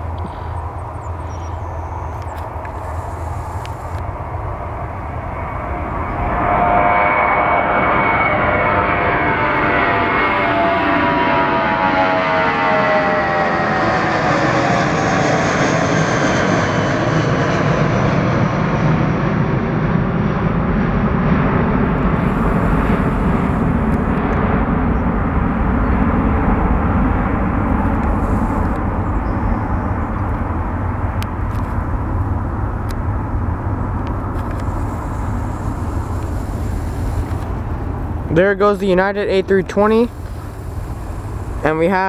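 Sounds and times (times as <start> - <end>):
jet engine whine: 0.0 - 42.0
jet engines roaring: 0.0 - 42.0.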